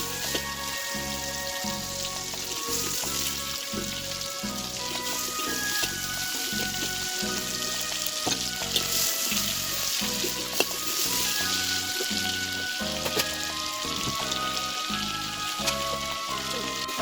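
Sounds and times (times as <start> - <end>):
prawns sizzling in oil: 0.0 - 17.0.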